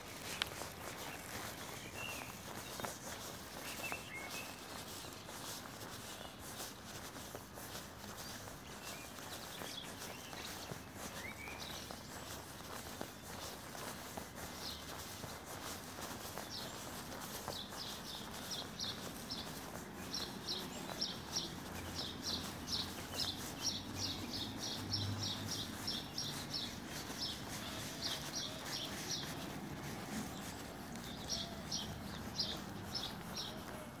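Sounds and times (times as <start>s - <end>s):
faint outdoor background noise: 0.0s - 34.0s
small bird chirping: 0.2s - 33.8s.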